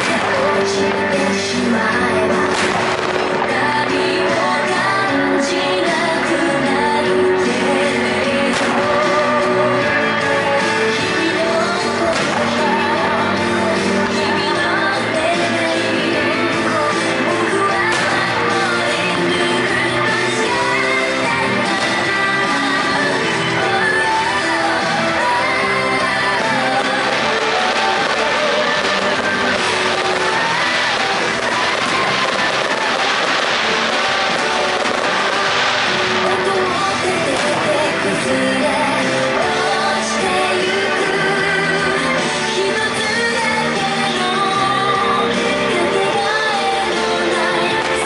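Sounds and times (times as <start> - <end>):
music playing: 0.0 - 48.0
song with singer and band: 0.0 - 48.0.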